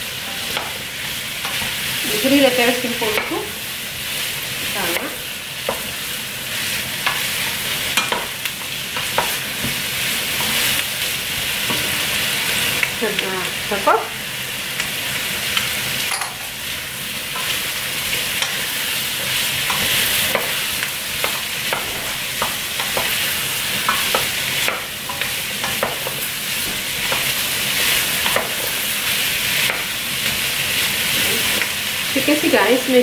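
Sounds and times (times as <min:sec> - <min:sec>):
vegetables sizzling in a pot: 0:00.0 - 0:33.0.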